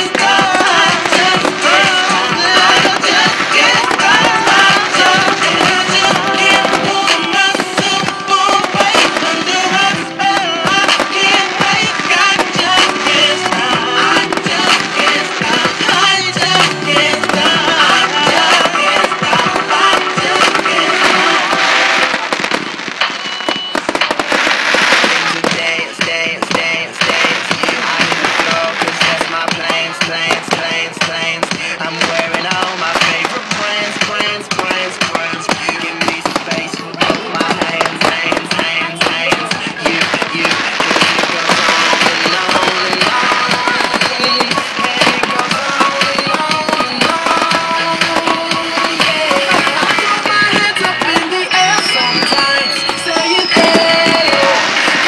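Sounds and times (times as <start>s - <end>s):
fireworks bangs and crackling: 0.0s - 55.0s
hissing crackle: 0.0s - 55.0s
music playing: 0.0s - 55.0s.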